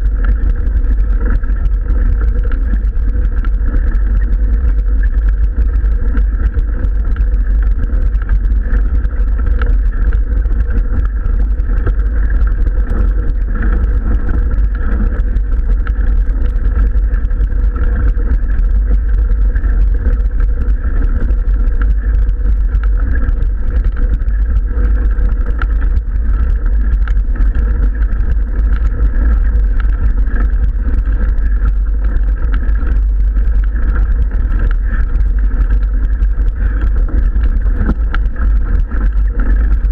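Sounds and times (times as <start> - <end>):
road vibration rumble: 0.0 - 39.9.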